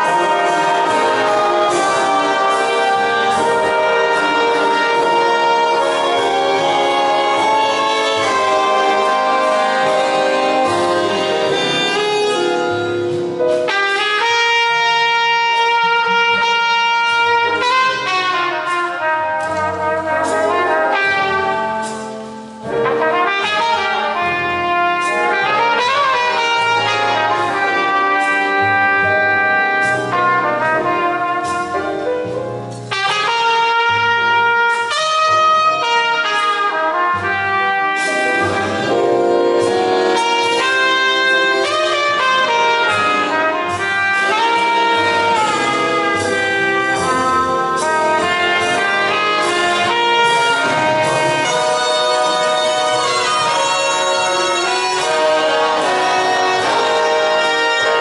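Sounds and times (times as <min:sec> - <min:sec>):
band accompaniment: 0:00.0 - 0:58.0
jazz trumpet solo: 0:00.0 - 0:58.0.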